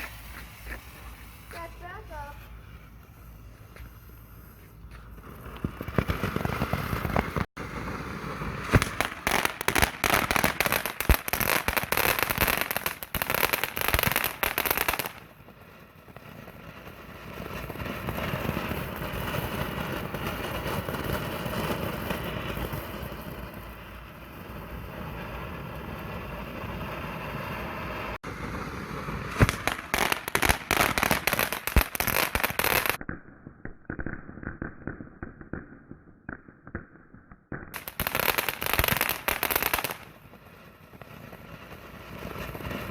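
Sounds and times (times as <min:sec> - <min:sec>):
firework hiss: 0:00.0 - 0:16.1, 0:16.8 - 0:33.0, 0:37.8 - 0:42.9
firework crackling pops: 0:00.0 - 0:42.9.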